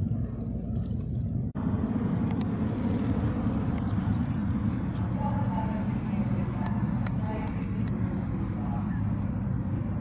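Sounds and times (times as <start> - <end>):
turboprop aircraft droning overhead: 0.0 - 10.0.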